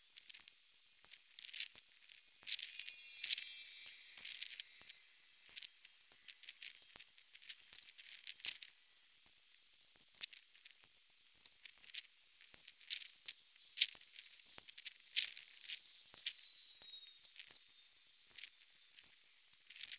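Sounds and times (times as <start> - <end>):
faint hiss: 0.0 - 19.9
rapid high-pitched clicks: 0.3 - 8.7, 10.1 - 19.9.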